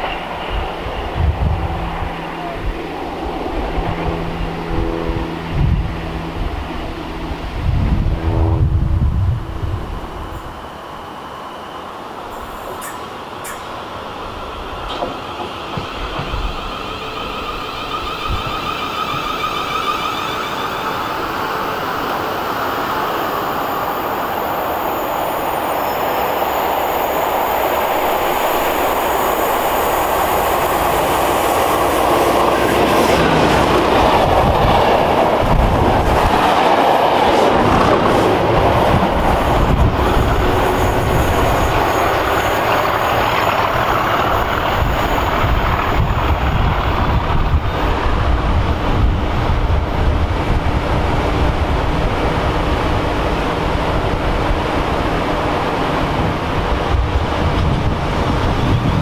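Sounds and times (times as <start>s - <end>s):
diesel locomotive engine rumble: 0.0s - 59.0s
wheel and rail noise: 0.0s - 59.0s.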